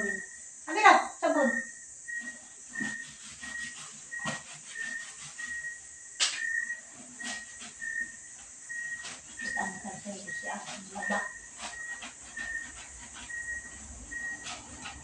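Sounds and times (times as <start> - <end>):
faint high-pitched beeps: 0.0 - 15.0.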